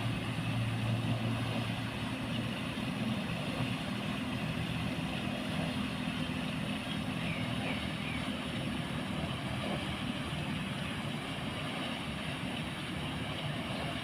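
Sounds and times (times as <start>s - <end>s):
wash of water noise: 0.0s - 14.0s
water wheel mechanical hum: 0.0s - 14.0s.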